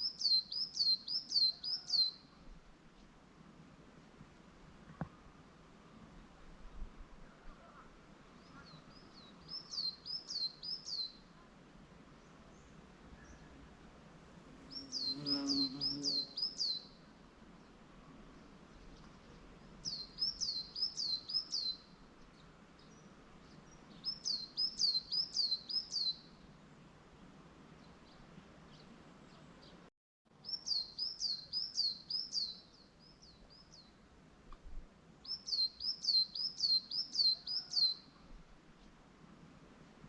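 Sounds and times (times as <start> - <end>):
songbird singing: 0.0 - 3.2, 6.7 - 39.3
faint background hiss: 0.0 - 40.0.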